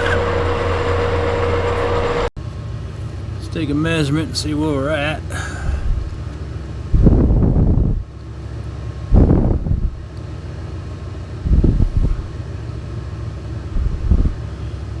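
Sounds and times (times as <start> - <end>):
shop machinery humming: 0.0 - 15.0.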